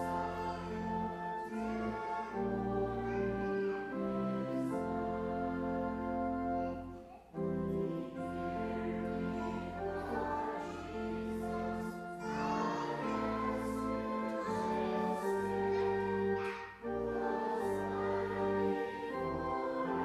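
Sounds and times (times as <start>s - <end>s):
congregation singing a hymn: 0.0s - 20.0s
instrumental accompaniment: 0.0s - 20.0s.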